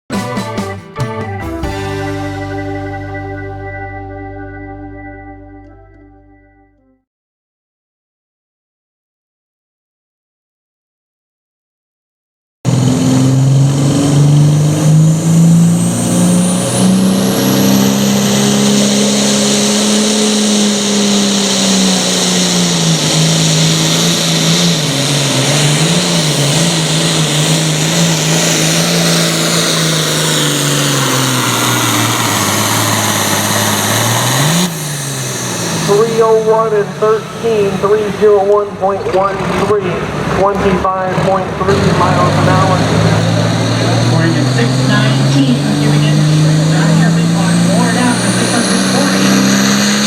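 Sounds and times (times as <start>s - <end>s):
tractor diesel engine at full throttle: 0.2s - 5.9s, 12.7s - 50.0s.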